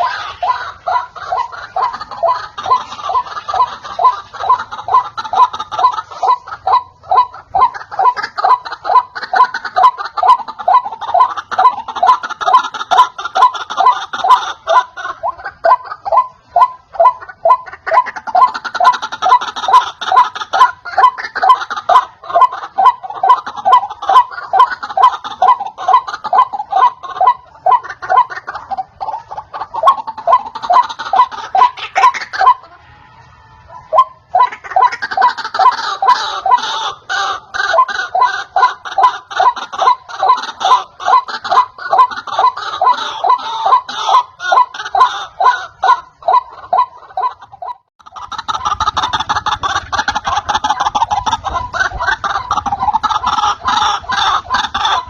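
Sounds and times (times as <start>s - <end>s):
waterhen harsh repeated call: 0.0s - 55.0s.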